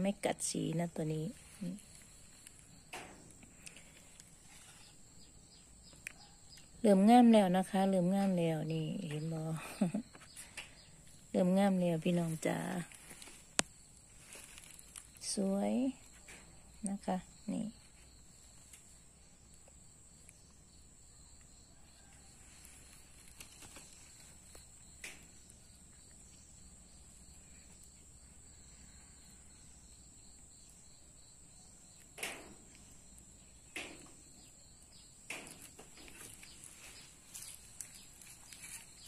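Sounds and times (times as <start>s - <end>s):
high insect trill: 0.0s - 39.0s.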